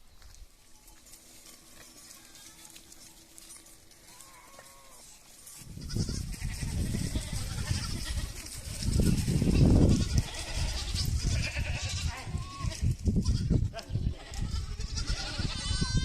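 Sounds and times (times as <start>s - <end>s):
goats bleating: 1.4s - 16.0s.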